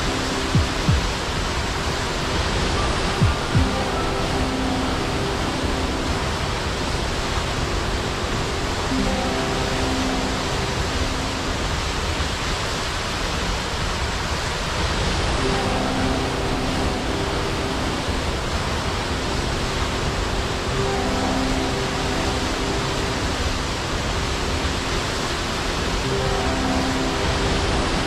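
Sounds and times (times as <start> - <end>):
faint held musical tones: 0.0 - 28.0
waterfall roar: 0.0 - 28.0.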